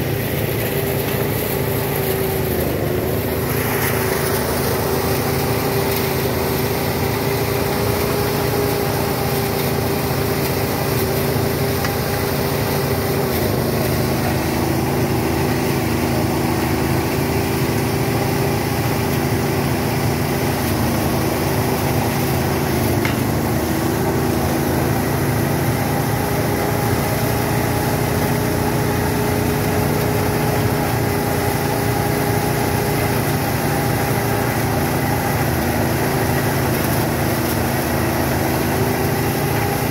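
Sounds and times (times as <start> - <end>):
small thresher engine running: 0.0 - 39.9.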